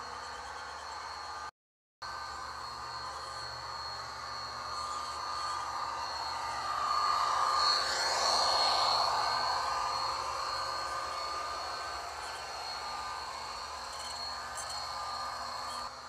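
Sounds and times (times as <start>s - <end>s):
model train wheels whirring: 0.0s - 16.0s.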